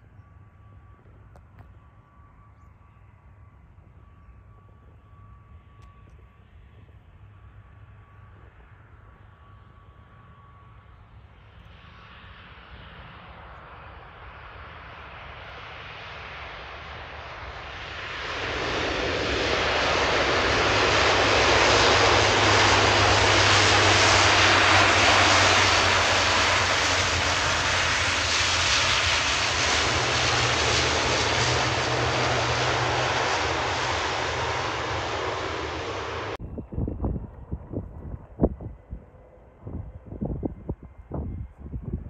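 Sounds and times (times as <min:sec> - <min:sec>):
low propeller drone: 0:00.0 - 0:42.0
turboprop engines: 0:00.0 - 0:42.0.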